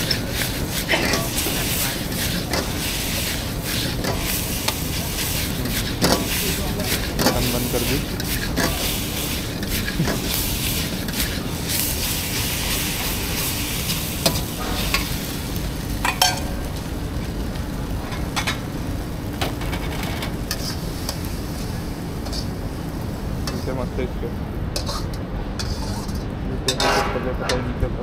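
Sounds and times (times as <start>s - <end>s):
metal ladle scraping wok: 0.0s - 16.5s, 20.0s - 22.6s, 23.4s - 23.8s, 24.8s - 27.7s
noodles sizzling in wok: 0.0s - 26.8s.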